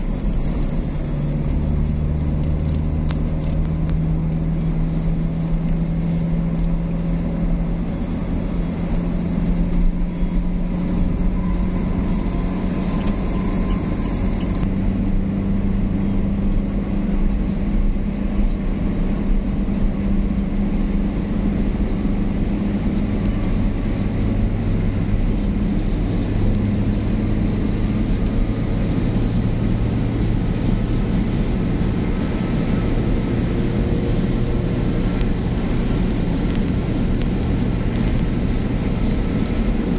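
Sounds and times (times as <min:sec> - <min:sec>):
low engine drone: 0:00.0 - 0:39.9
tyre and road rumble: 0:00.0 - 0:39.9.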